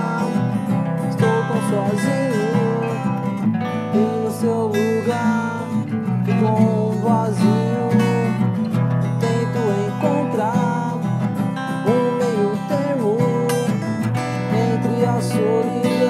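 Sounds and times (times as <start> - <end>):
bending melody line: 0.0 - 16.0
strummed guitar chords: 0.0 - 16.0.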